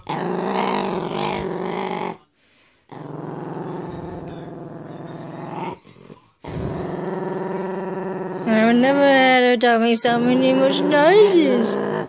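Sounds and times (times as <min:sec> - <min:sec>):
dog growling: 0:00.0 - 0:02.3, 0:02.9 - 0:09.0, 0:10.1 - 0:12.0.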